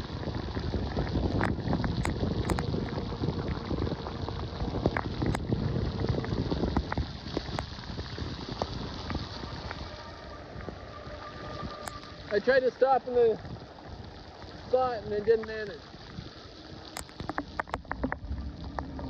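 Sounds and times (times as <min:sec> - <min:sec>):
rain falling: 0:00.0 - 0:19.0
raindrops ticking: 0:00.0 - 0:19.0
wind noise on microphone: 0:00.0 - 0:19.0.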